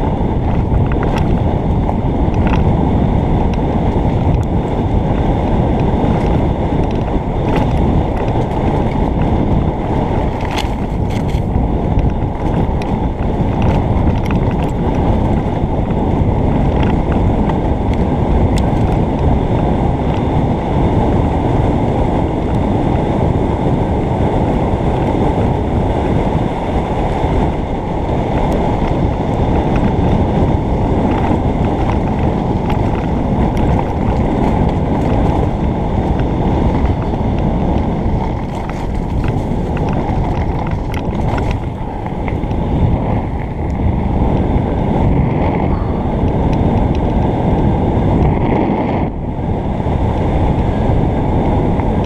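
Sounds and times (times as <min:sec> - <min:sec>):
bike rattling clicks: 0:00.0 - 0:23.8, 0:24.4 - 0:52.0
tyres rumbling over dirt: 0:00.0 - 0:52.0
wind rushing over microphone: 0:00.0 - 0:52.0.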